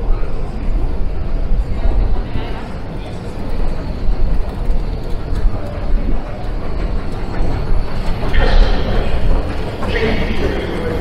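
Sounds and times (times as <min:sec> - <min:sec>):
low rumble of rail machinery: 0:00.0 - 0:11.0.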